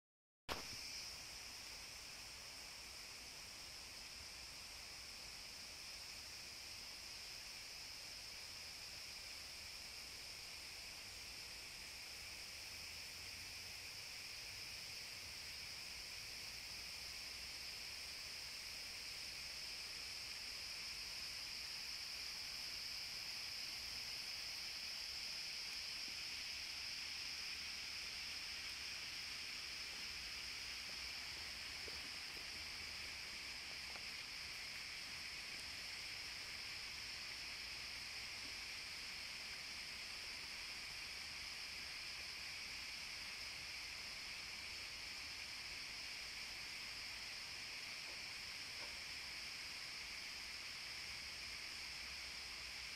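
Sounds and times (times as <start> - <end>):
insects droning: 0.5 - 52.9.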